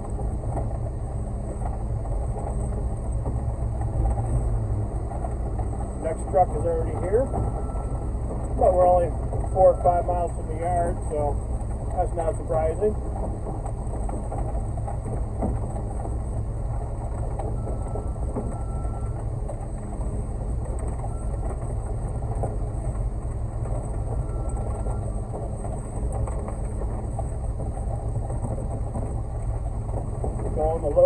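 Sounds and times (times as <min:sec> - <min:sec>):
concrete mixer truck engine hum: 0:00.0 - 0:31.0
mixer drum rattling and grinding: 0:00.0 - 0:31.0.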